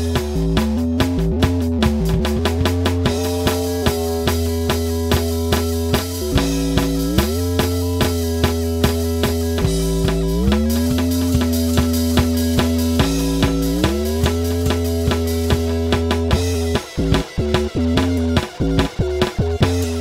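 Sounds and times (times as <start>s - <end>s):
deep steady bass: 0.0s - 20.0s
drum beat: 0.0s - 20.0s
guitar: 0.0s - 20.0s
keyboard: 0.0s - 20.0s.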